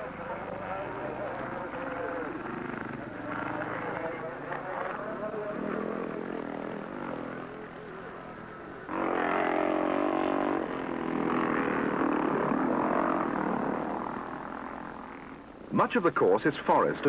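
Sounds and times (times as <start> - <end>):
loud motorcycle engine revving: 0.0 - 15.7
motocross motorcycle engines: 0.0 - 17.0.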